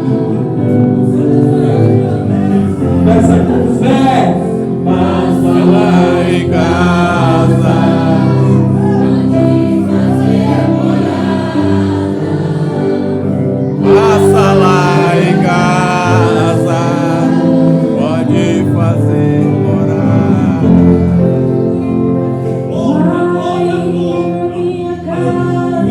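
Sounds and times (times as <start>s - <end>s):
group singing gospel: 0.0s - 25.9s
sustained accompanying chords: 0.0s - 25.9s.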